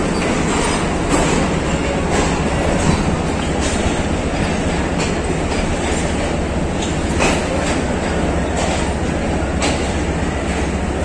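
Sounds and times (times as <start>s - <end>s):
wheels clacking over rail joints: 0.0s - 10.9s
train coaches rumbling: 0.0s - 11.0s.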